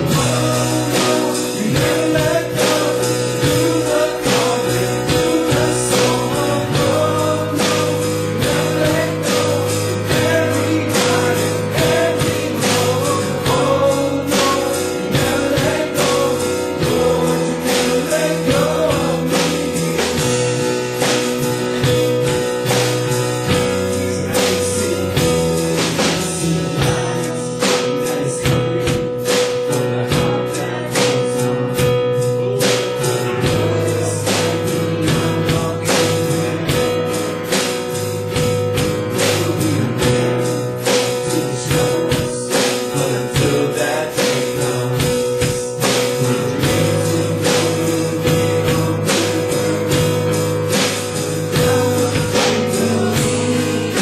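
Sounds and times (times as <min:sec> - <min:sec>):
drum and cymbal strokes: 0:00.0 - 0:54.0
live band playing: 0:00.0 - 0:54.0.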